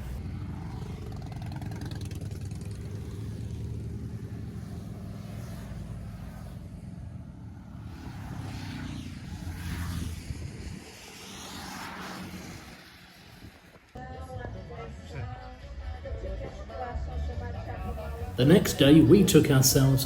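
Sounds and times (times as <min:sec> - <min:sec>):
motorcycle engines rumbling: 0:00.0 - 0:13.9, 0:17.8 - 0:20.0.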